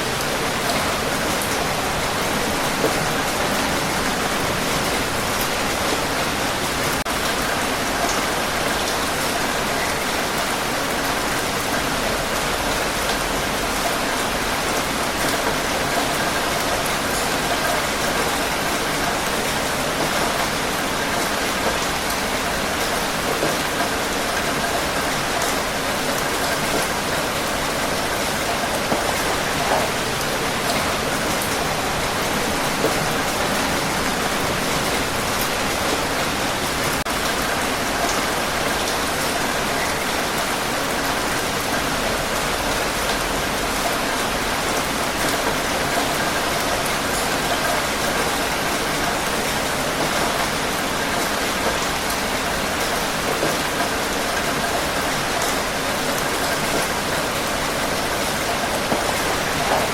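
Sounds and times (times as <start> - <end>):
rain hissing: 0.0 - 8.6, 9.4 - 59.9
raindrops pattering: 0.0 - 59.9.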